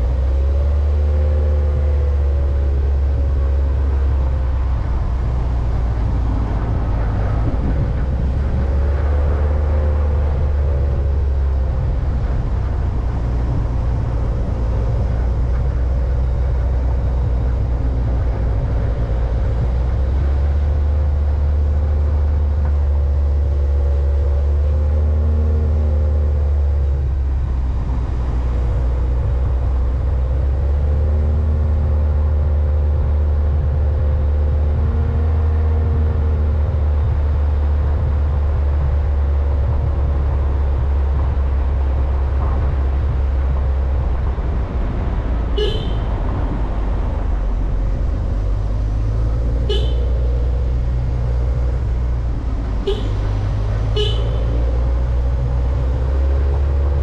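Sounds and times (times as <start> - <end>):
road and wind noise: 0.0 - 57.0
vehicle engine revving: 0.0 - 57.0.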